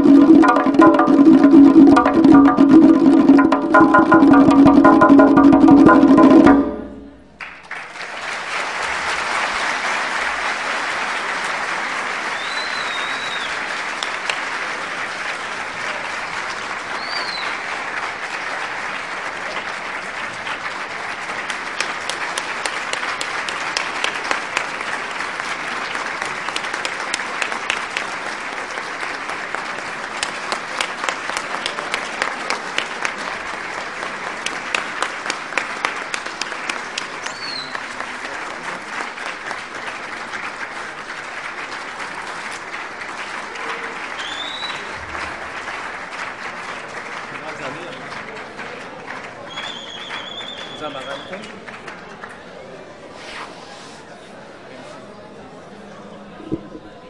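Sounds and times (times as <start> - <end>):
loud separate claps: 0.0 - 52.4
audience applauding: 0.0 - 52.9.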